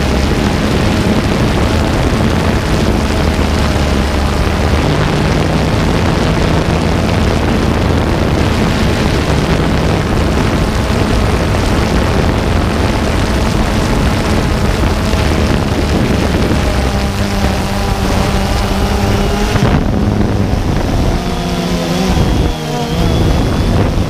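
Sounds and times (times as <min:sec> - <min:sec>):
drone motors humming: 0:00.0 - 0:24.0
wind rush on microphone: 0:00.0 - 0:24.0.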